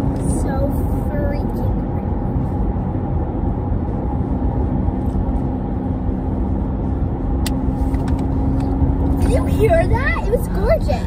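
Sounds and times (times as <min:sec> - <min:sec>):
car rumble from inside cabin: 0:00.0 - 0:11.0.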